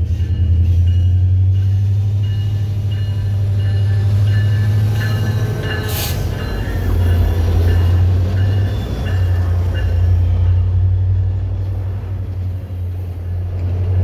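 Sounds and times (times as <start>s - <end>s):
train rumbling past: 0.0s - 14.0s
wheels squealing on rails: 0.0s - 14.0s.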